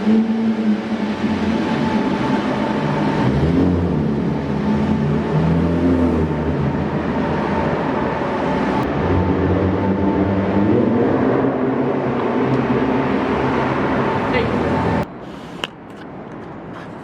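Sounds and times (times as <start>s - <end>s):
car engine droning at low speed: 0.0s - 17.0s.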